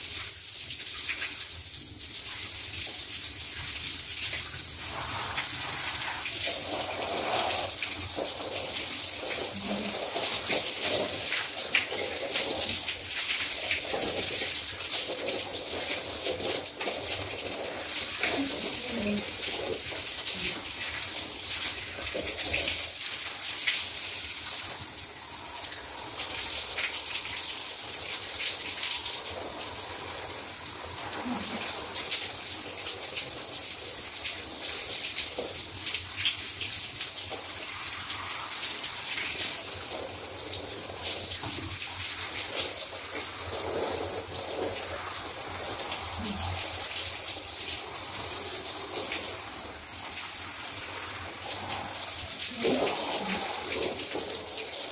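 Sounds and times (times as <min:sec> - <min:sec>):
water splashing on floor: 0:00.0 - 0:54.9
water spraying from shower head: 0:00.0 - 0:54.9.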